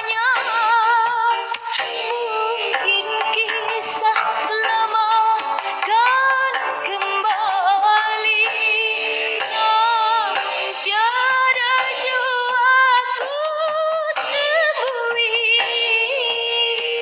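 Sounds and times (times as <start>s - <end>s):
musical accompaniment: 0.0s - 17.0s
young woman singing: 0.0s - 17.0s.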